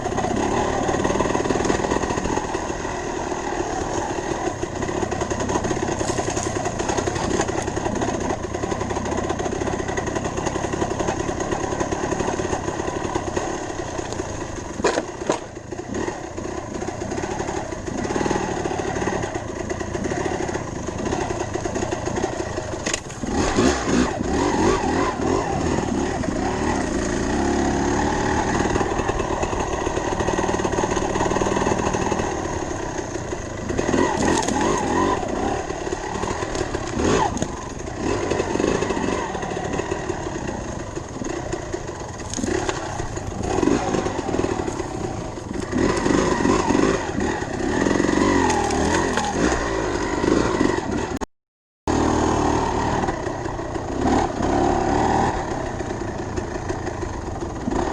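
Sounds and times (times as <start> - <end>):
dirt bike engine running: 0.0 - 51.3, 51.9 - 57.9.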